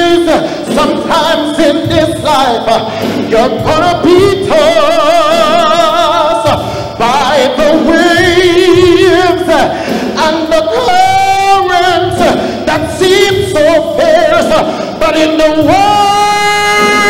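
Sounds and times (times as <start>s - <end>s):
background music: 0.0s - 17.0s
man singing into a microphone: 0.0s - 17.0s.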